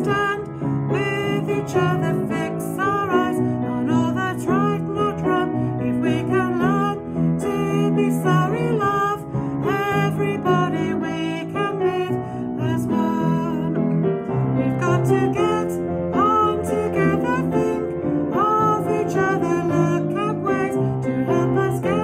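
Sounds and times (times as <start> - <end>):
woman singing: 0.0 - 13.8, 14.6 - 22.0
piano chords and melody: 0.0 - 22.0.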